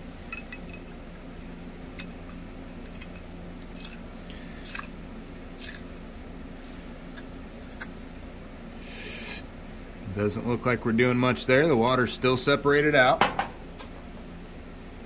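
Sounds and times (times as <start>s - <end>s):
low room tone hum: 0.0s - 15.0s.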